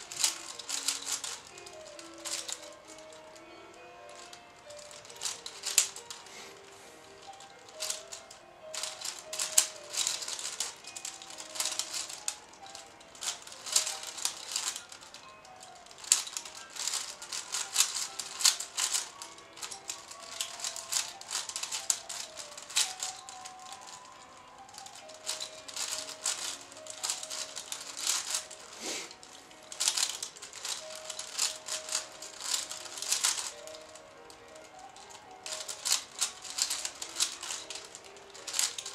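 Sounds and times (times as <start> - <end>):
faint music with held notes: 0.0 - 38.9
puzzle cube layers clicking: 0.0 - 38.9.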